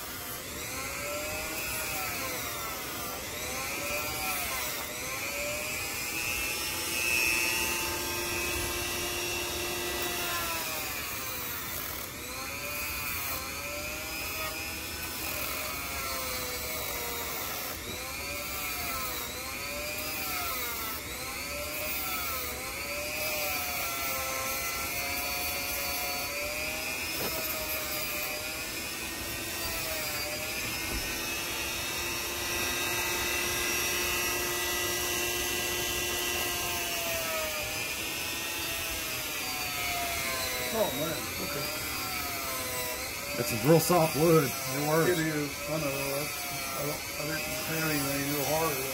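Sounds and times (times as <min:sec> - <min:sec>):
power tool motor whining: 0:00.0 - 0:48.9.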